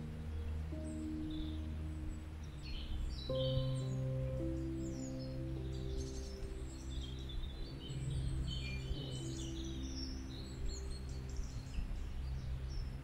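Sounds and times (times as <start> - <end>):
small birds chirping: 0.0 - 13.0
soft background music: 0.0 - 13.0.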